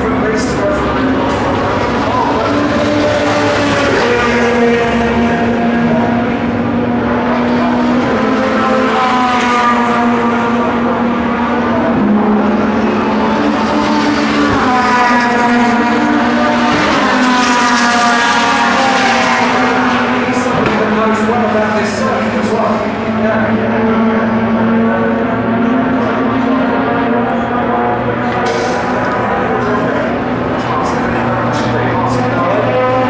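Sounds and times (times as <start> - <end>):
racing car engine at high revs: 0.0 - 33.0.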